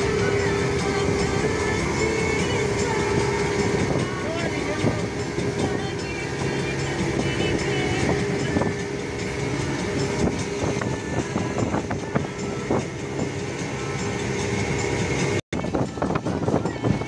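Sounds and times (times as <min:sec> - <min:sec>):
speedboat engine running: 0:00.0 - 0:17.0
wind and water rushing: 0:00.0 - 0:17.0.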